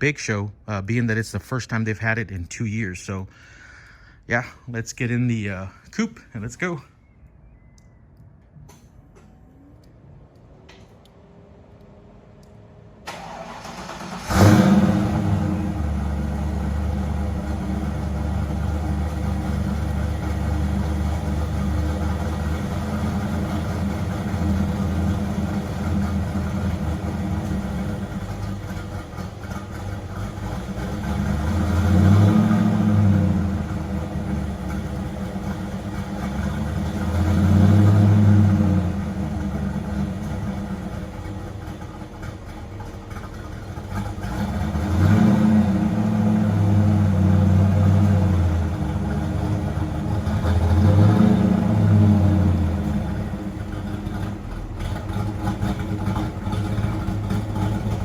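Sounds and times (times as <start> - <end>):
car engine starting and idling: 0.0 - 58.0
car engine revving: 10.2 - 58.0.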